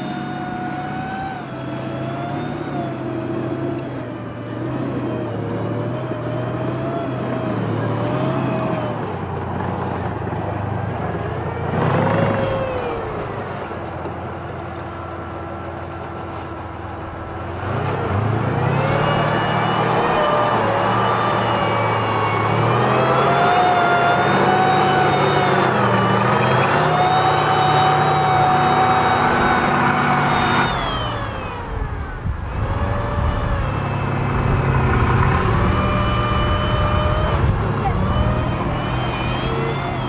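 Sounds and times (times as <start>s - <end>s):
diesel engine revving: 0.0s - 40.0s
tracked vehicle driving: 0.0s - 40.0s.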